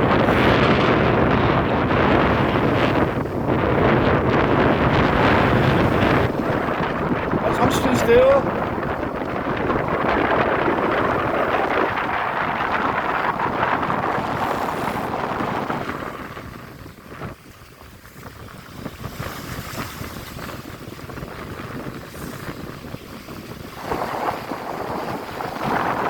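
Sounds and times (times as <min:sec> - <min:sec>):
waves washing: 0:00.0 - 0:26.0
wind buffeting microphone: 0:00.0 - 0:26.0.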